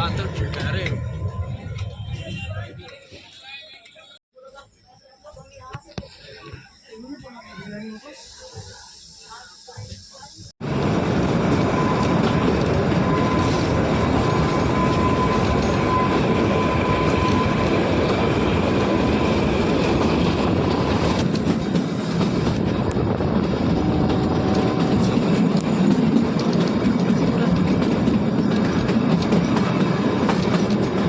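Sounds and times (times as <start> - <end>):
train rumbling and rattling on rails: 0.0 - 4.0, 7.2 - 31.0.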